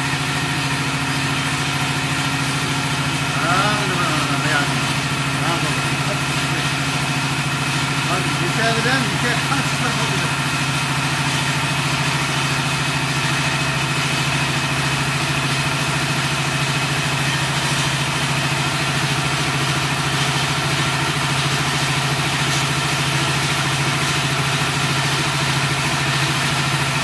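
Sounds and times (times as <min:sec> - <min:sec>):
bending machine motor hum: 0:00.0 - 0:27.0.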